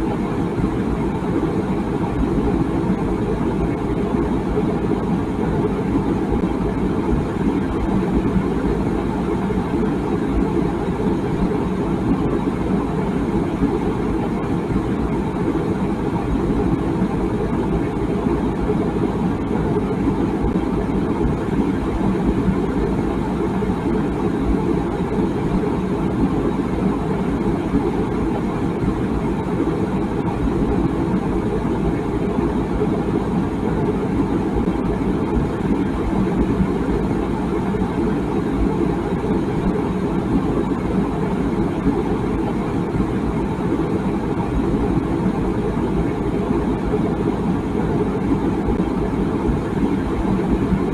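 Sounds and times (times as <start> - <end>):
water boiling in a kettle: 0.0 - 50.9.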